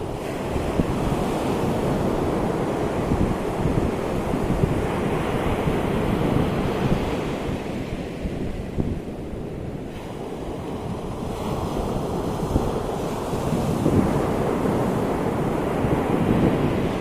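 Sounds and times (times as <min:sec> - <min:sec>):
ocean waves breaking on shore: 0:00.0 - 0:17.0
wind buffeting microphone: 0:00.0 - 0:17.0.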